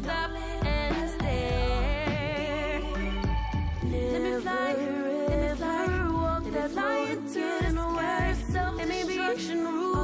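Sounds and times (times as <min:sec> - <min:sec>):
pop music: 0:00.0 - 0:10.0.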